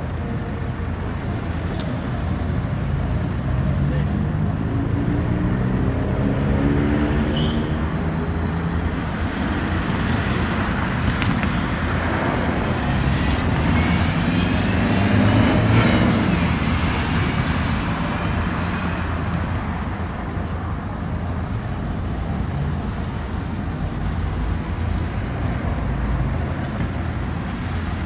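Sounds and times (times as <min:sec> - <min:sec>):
passing car engines: 0:00.0 - 0:28.0.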